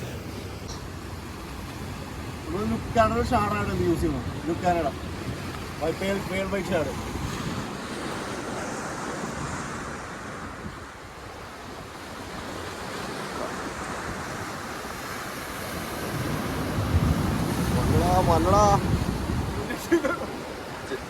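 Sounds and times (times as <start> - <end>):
sea surf breaking on beach: 0.0 - 21.0
wind buffeting microphone: 0.0 - 21.0.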